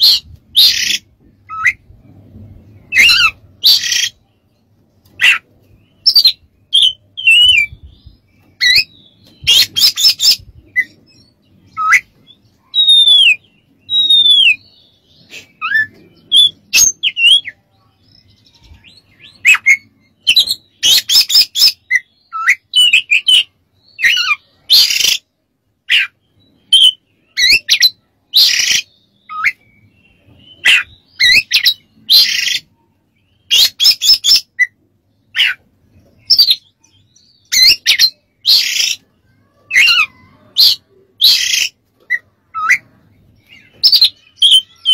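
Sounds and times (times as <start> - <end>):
bird singing: 0.0 - 44.9.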